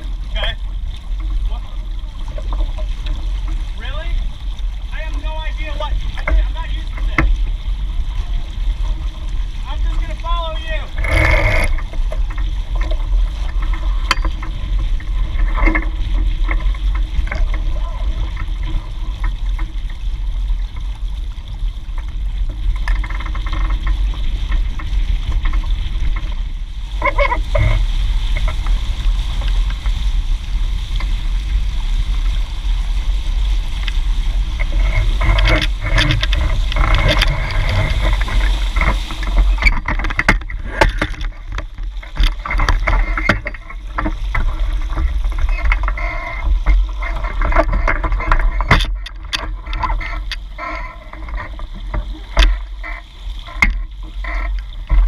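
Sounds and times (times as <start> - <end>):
water rushing past hulls: 0.0 - 55.0
wind rumble on microphone: 0.0 - 55.0.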